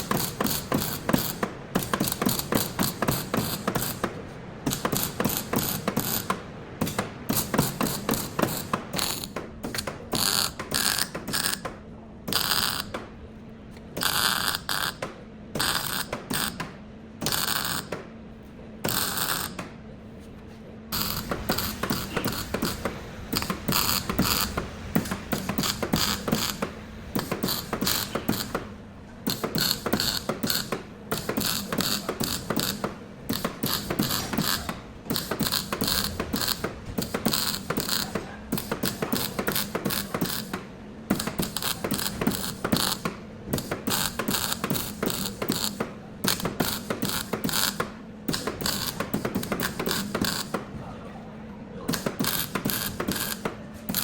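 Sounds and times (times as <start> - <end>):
rapid mechanical clicking of tools: 0.0 - 13.2, 13.8 - 18.1, 18.8 - 19.8, 20.9 - 50.7, 51.9 - 54.0.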